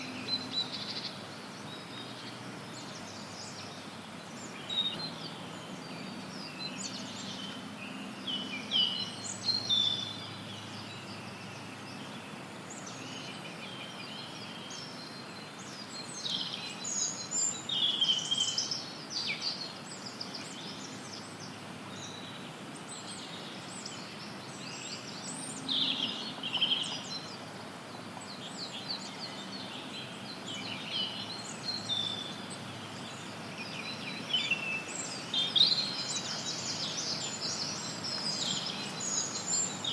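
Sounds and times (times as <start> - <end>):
songbirds chirping: 0.0 - 39.9
white noise hiss: 0.0 - 39.9.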